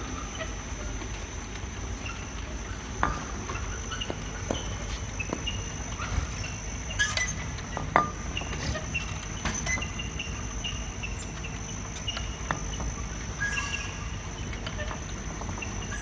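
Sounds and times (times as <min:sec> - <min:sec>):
thin high whine: 0:00.0 - 0:16.0.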